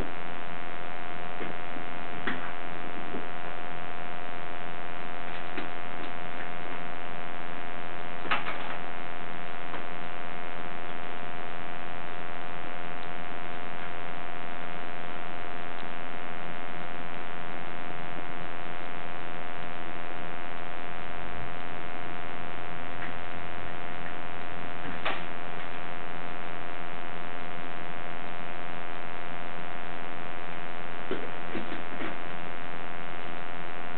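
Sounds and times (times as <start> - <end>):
steady electrical hum: 0.0 - 33.9.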